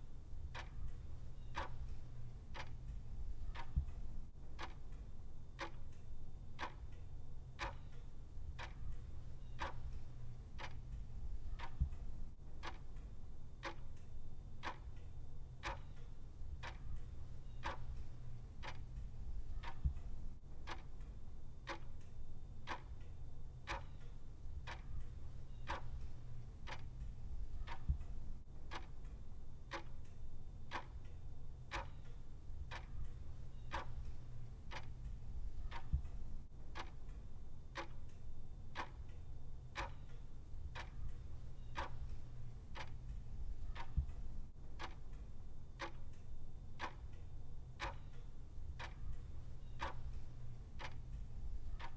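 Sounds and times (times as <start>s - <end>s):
low steady hum: 0.0s - 51.9s
clock ticking: 0.4s - 7.0s, 7.6s - 51.9s.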